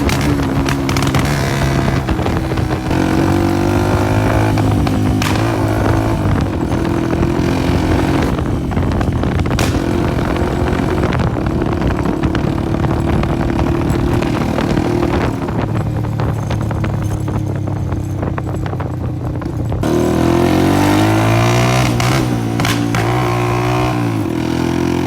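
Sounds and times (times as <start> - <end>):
exhaust pops: 0.0 - 24.6
motorcycle engine running: 0.0 - 25.0.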